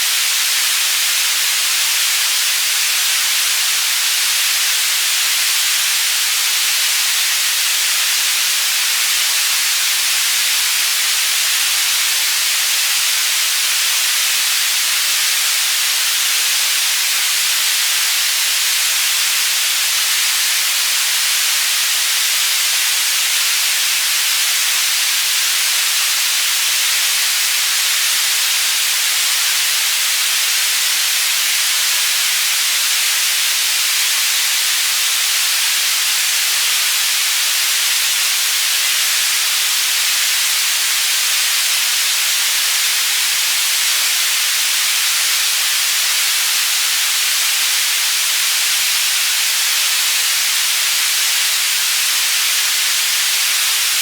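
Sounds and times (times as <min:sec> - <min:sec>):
synthetic white noise hiss: 0:00.0 - 0:54.0.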